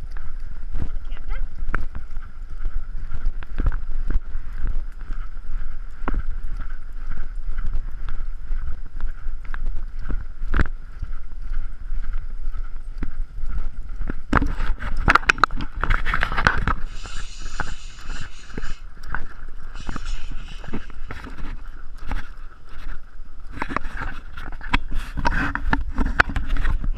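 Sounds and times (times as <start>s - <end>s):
camera rumble and bumping: 0.0s - 26.9s
hooves knocking on sandy trail: 0.0s - 26.9s.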